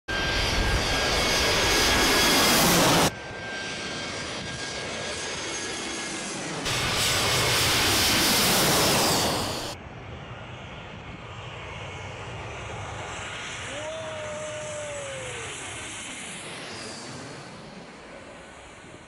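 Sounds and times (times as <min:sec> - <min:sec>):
jet airliner roaring overhead: 0:00.1 - 0:19.0
jet engine whine: 0:00.1 - 0:19.0.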